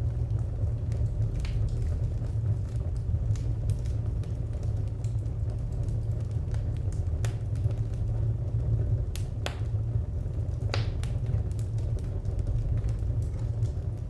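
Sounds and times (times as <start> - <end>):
firewood crackling and popping: 0.0 - 14.0
wood fire rumble: 0.0 - 14.0.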